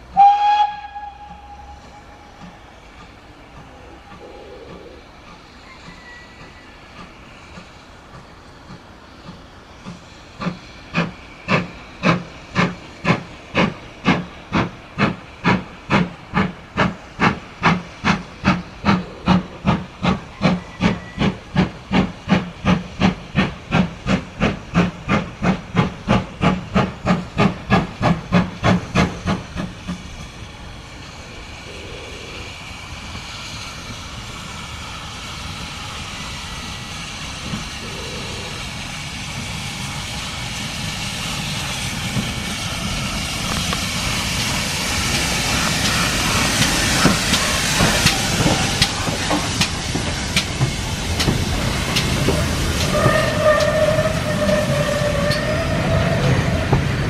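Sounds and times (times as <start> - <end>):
steam hiss: 0.0 - 57.0
steam locomotive chuffing: 0.0 - 57.0.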